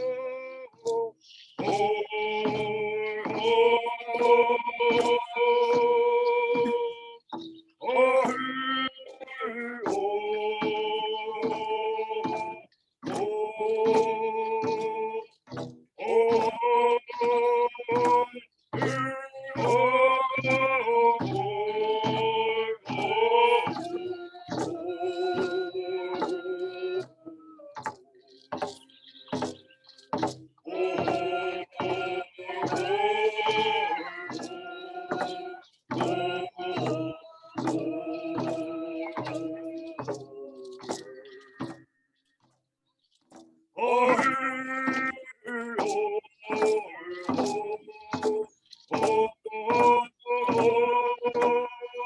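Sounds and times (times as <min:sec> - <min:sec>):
group singing: 0:00.0 - 0:07.1, 0:07.8 - 0:15.3, 0:16.0 - 0:41.8, 0:43.8 - 0:52.0
steady drumbeat: 0:01.6 - 0:08.4, 0:09.8 - 0:27.1, 0:27.8 - 0:41.8, 0:43.8 - 0:45.2, 0:45.8 - 0:51.7.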